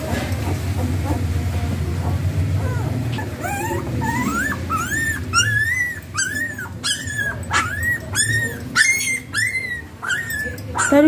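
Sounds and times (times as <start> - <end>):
puppies whining: 0.0 - 11.0.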